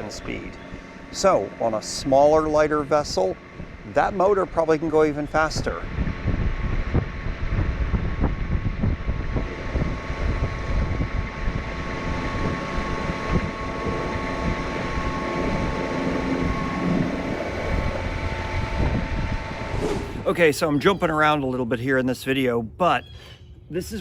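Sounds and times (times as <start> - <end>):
electric motor high whine: 0.0 - 20.3
wind buffeting microphone: 0.0 - 20.8.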